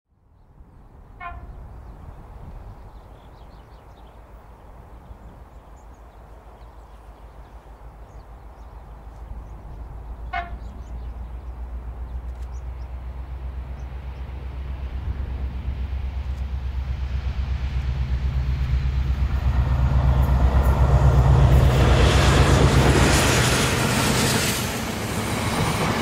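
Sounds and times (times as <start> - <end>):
diesel locomotive engine rumble: 0.8 - 26.0.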